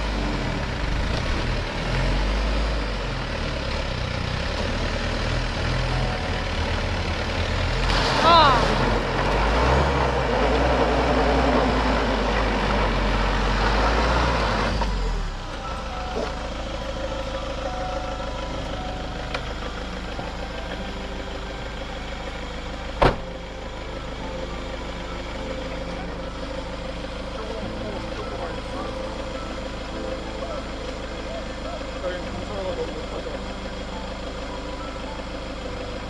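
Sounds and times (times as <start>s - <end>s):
van engine revving: 0.0s - 36.0s.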